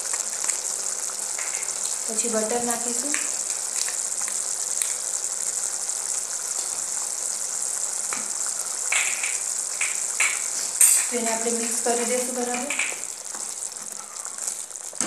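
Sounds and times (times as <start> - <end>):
sauce sizzling in pan: 0.0 - 15.0.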